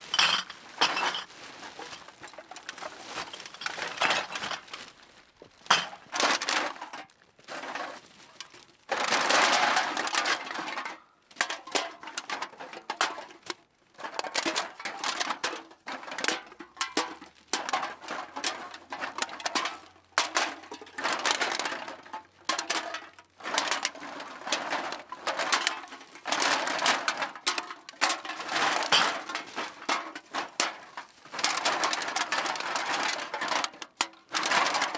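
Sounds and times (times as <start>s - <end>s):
cans clattering in a bag: 0.0s - 34.9s.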